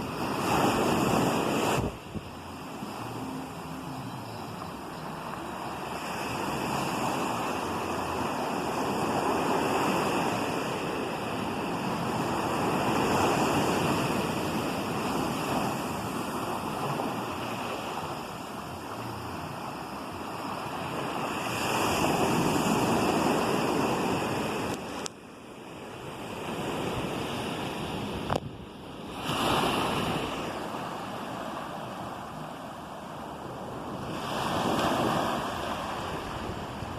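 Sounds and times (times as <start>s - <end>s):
waves breaking: 0.0s - 36.9s.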